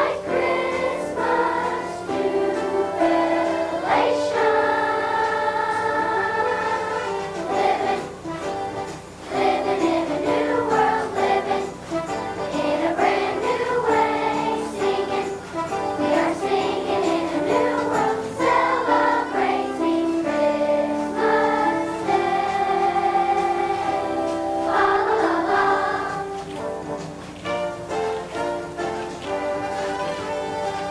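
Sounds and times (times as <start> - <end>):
children's choir singing: 0.0 - 30.9.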